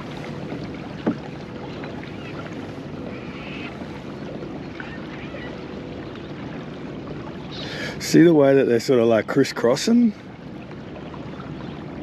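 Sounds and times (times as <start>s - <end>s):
water lapping against hull: 0.0s - 12.0s.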